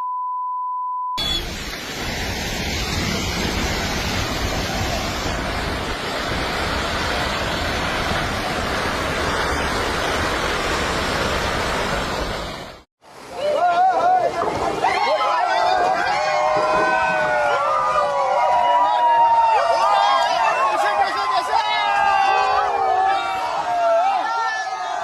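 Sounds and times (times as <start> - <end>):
landslide rushing: 1.2 - 24.2.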